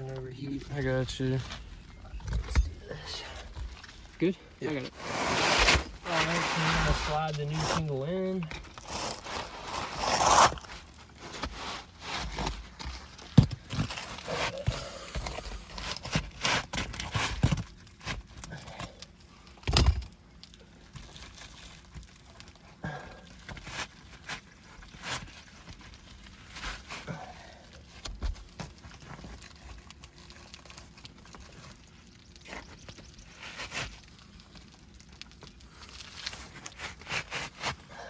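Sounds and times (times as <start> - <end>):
roof shingle scraping and rustling: 0.1 - 18.4, 20.7 - 38.0.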